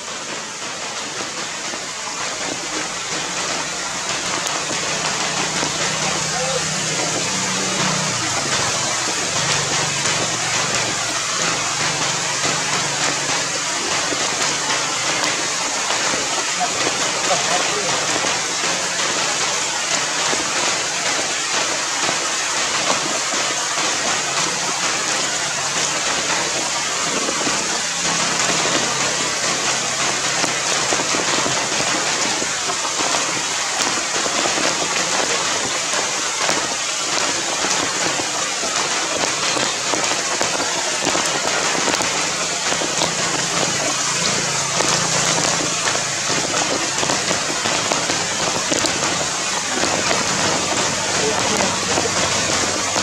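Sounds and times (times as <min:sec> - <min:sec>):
heavy rain on ground and leaves: 0:00.0 - 0:53.0.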